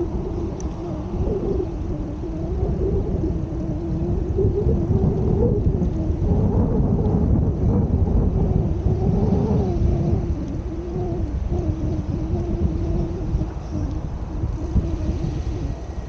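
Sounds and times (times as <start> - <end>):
wavering hum: 0.0 - 16.0.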